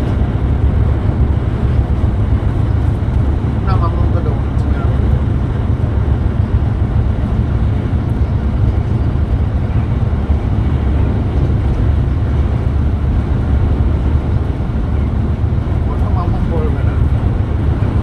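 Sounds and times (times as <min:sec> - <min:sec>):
coach engine and road rumble: 0:00.0 - 0:18.0.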